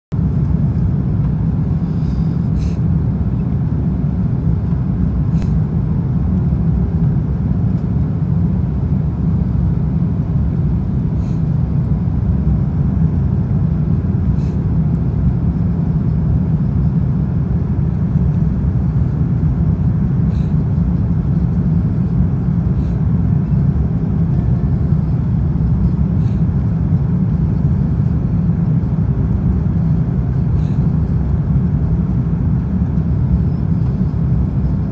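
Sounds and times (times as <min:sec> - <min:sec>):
airplane cabin engine rumble: 0:00.1 - 0:34.9.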